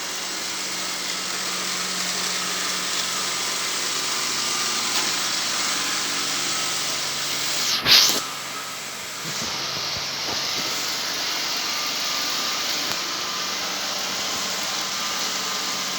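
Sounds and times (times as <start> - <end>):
sweeping machine whirring: 0.0 - 15.9.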